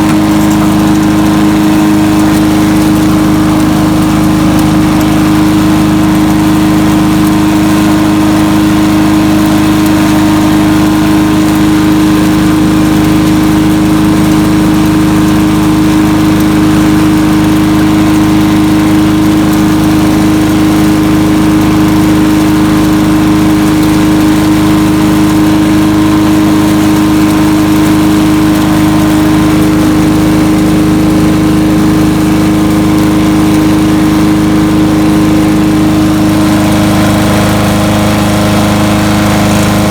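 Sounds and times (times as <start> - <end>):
chipper shredder engine droning: 0.0 - 39.9.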